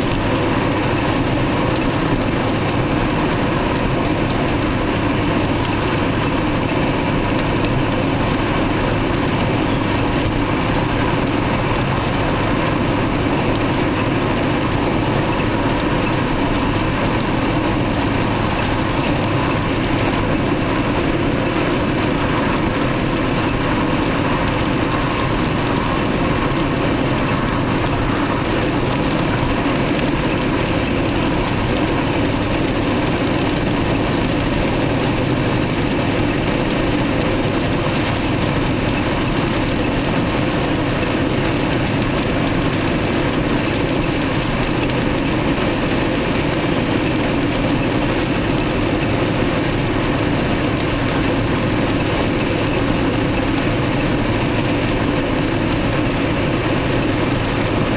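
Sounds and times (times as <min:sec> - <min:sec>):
car road and engine noise: 0:00.0 - 0:57.9.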